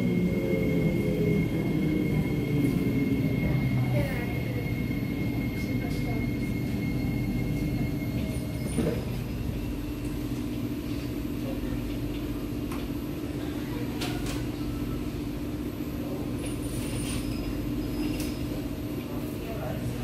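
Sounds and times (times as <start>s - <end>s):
train car low hum: 0.0s - 20.0s.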